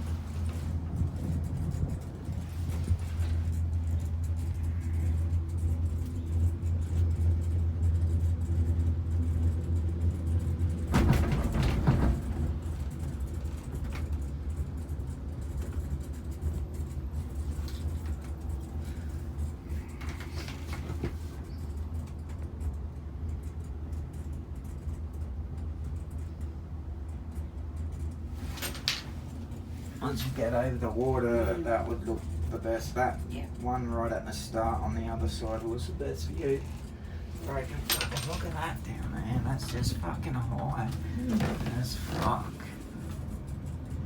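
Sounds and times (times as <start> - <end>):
rattling rumble: 0.0 - 23.5, 25.9 - 44.0
cable car hum and rumble: 0.0 - 44.0.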